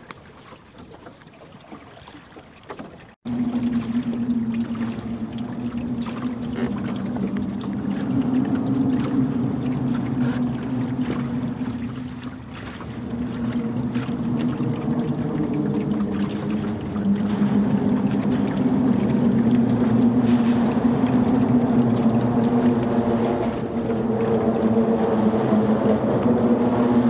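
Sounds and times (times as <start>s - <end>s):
water noise: 0.0s - 27.0s
wind: 0.0s - 27.0s.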